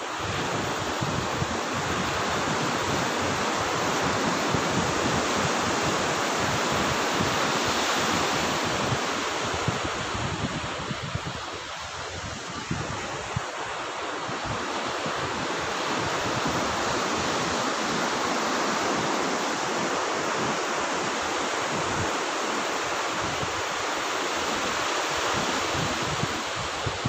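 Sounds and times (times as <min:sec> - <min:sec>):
sea surf breaking: 0:00.0 - 0:27.0
wind buffeting microphone: 0:00.1 - 0:27.0.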